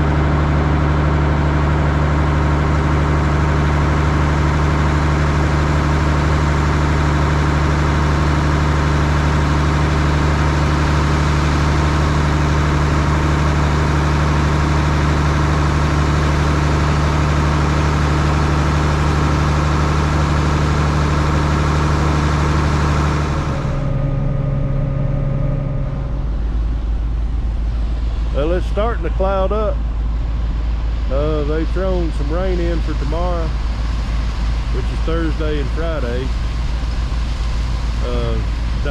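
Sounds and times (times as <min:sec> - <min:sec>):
diesel engine droning: 0:00.0 - 0:38.9
quieter engine hum: 0:00.0 - 0:38.9.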